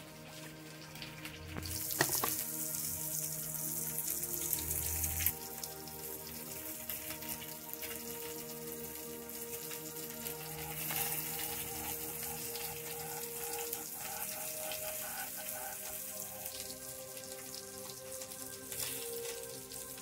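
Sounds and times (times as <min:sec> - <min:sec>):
fish frying in oil: 0:00.0 - 0:20.0
soft background music: 0:00.0 - 0:20.0.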